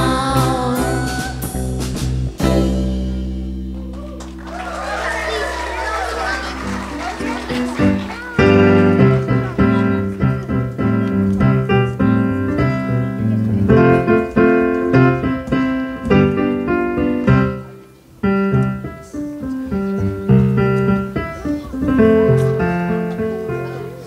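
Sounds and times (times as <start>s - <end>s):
electric piano playing: 0.0s - 24.0s.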